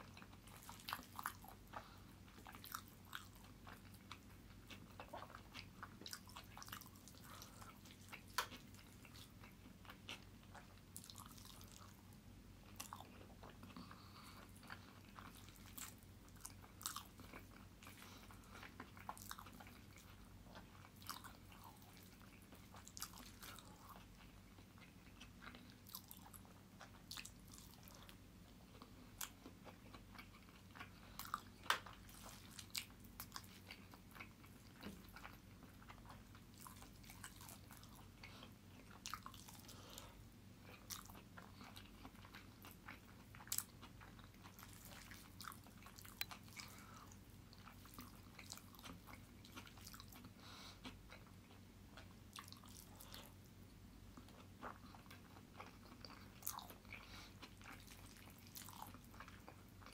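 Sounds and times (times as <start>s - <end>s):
wet chewing clicks and smacks: 0.0s - 59.9s.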